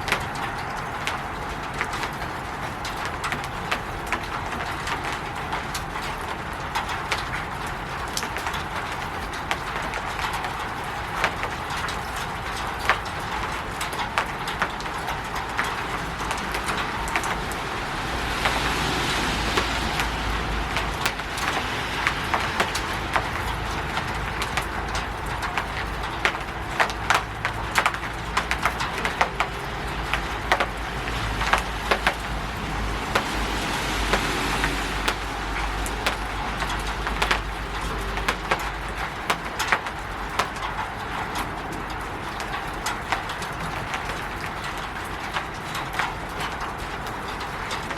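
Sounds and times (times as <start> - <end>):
rain on a roof: 0.0 - 47.9
sharp drips and taps: 0.0 - 47.9.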